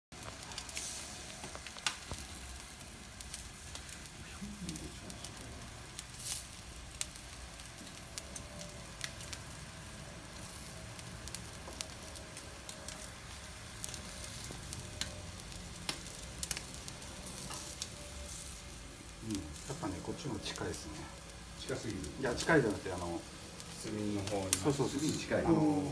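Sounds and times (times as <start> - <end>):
meat sizzling over charcoal: 0.1 - 25.9
sharp pops and crackles: 0.2 - 25.9.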